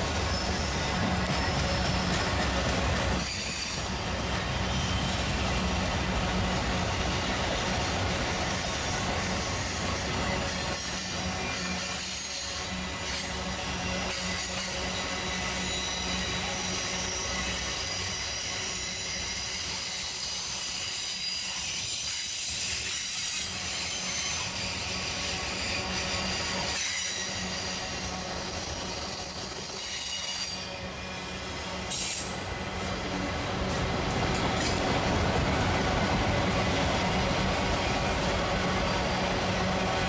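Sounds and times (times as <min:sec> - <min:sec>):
train wheels squealing: 0:00.0 - 0:05.8, 0:06.8 - 0:32.5, 0:38.6 - 0:39.6
rumble of train cars: 0:00.0 - 0:40.0.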